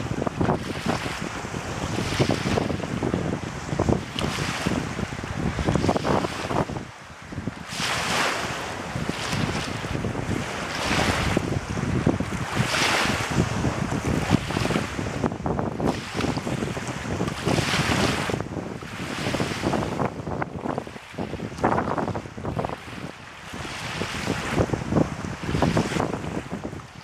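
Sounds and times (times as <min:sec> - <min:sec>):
lake waves washing: 0:00.0 - 0:27.0
wind buffeting microphone: 0:00.0 - 0:27.0.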